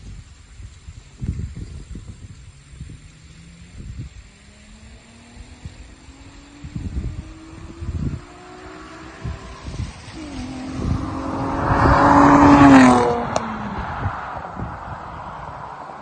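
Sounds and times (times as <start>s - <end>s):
car driving by: 2.3s - 16.0s.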